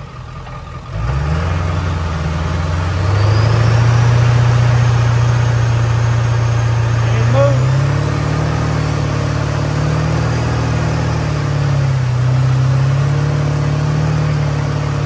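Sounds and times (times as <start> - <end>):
truck engine revving: 0.0 - 15.0
tires churning through mud: 0.9 - 15.0.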